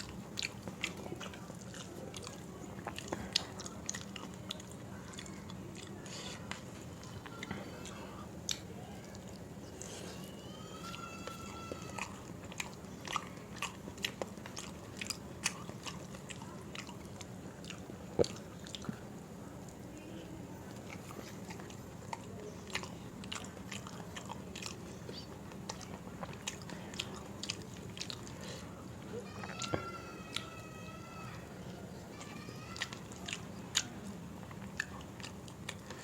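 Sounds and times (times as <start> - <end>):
person chewing food: 0.0 - 30.5, 32.1 - 36.0
faint low hum: 0.0 - 36.0.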